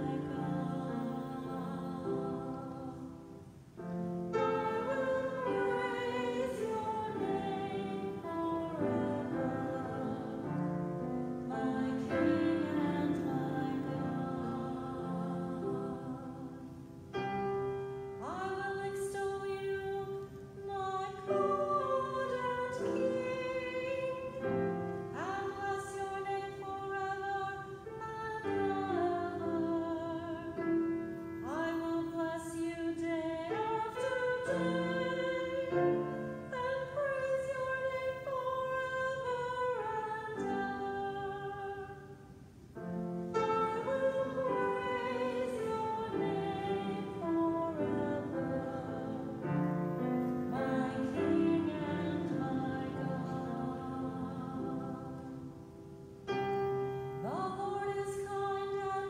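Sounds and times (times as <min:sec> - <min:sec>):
person singing with vibrato: 0:00.0 - 0:56.2, 0:57.0 - 0:59.0.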